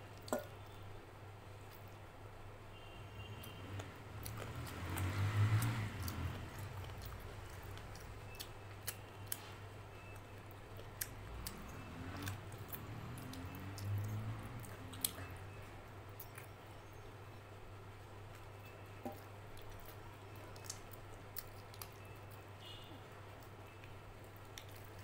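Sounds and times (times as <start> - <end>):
wet chewing: 3.5 - 17.0, 18.2 - 25.0.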